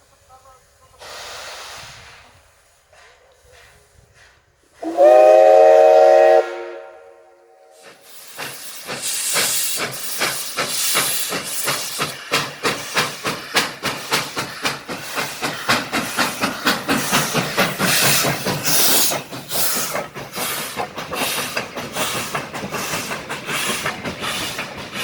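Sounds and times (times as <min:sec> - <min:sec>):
hiss of escaping steam: 0:00.0 - 0:07.0, 0:07.6 - 0:25.0
steam locomotive exhaust chuffs: 0:00.2 - 0:25.0.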